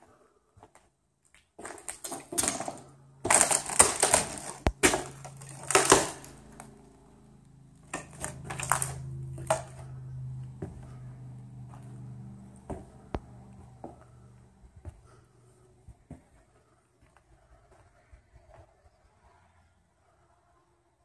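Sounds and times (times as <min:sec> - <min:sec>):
footsteps crunching over debris: 0:00.0 - 0:06.8, 0:07.9 - 0:18.6
faint low hum: 0:00.0 - 0:21.0.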